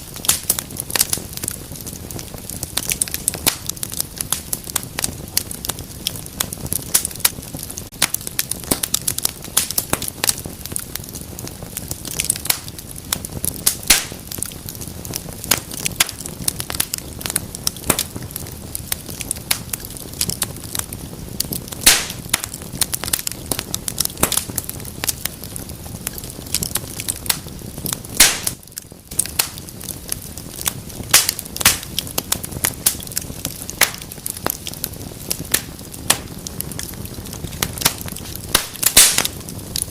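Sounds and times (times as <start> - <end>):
low rush of flames: 0.0 - 39.9
wood fire crackling and popping: 0.0 - 39.9.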